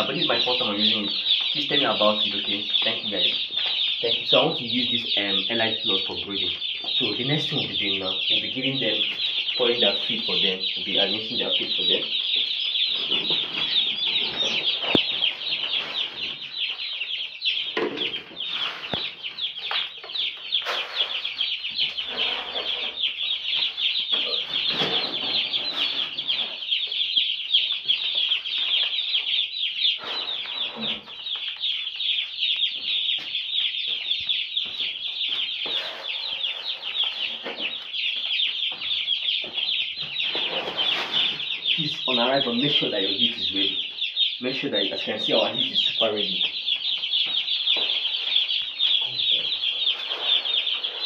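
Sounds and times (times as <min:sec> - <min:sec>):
chicks peeping: 0:00.0 - 0:51.0.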